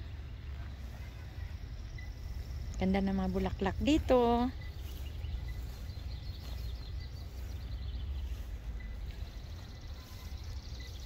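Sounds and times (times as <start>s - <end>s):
high-pitched chirping trills: 0.0s - 11.0s.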